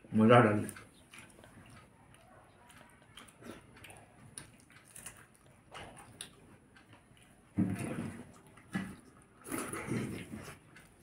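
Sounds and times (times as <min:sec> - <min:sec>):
faint chewing: 0:00.3 - 0:11.0.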